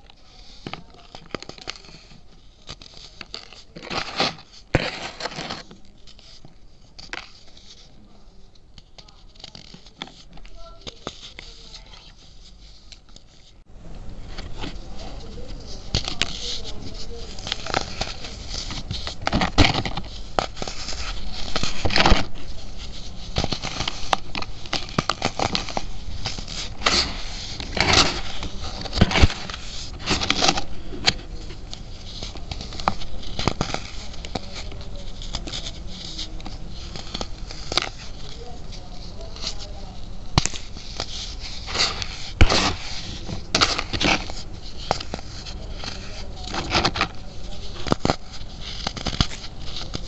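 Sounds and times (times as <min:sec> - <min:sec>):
baking soda crunching: 0:00.0 - 0:13.6, 0:14.4 - 0:50.0.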